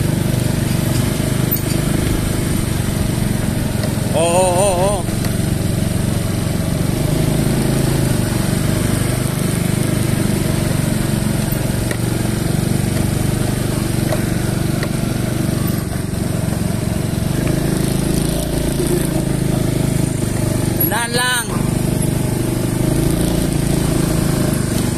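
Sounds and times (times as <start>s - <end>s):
motorcycle engines droning uphill: 0.0s - 24.9s.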